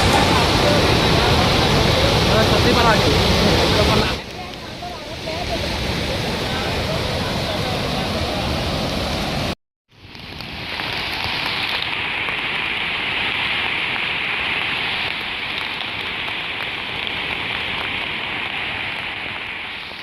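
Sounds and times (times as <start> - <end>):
rushing water hiss: 0.0 - 20.0.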